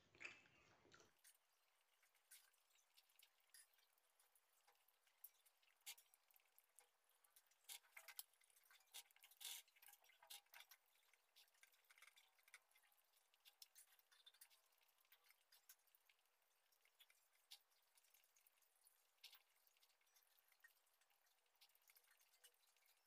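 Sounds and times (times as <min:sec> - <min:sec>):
chewing: 0:00.1 - 0:23.0.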